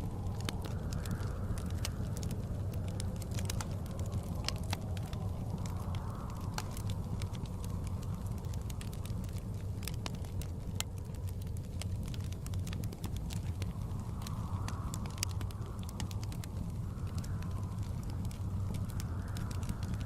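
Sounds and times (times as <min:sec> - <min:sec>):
blizzard wind: 0:00.0 - 0:20.0
wood fire crackling: 0:00.0 - 0:20.0.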